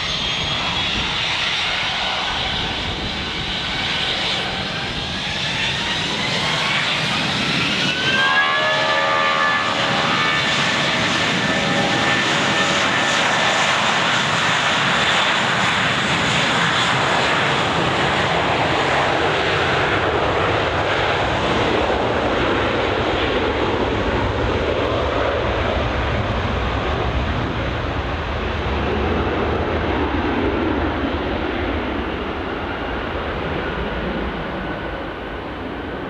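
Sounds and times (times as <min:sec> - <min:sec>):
jet engines roaring on takeoff: 0:00.0 - 0:36.0.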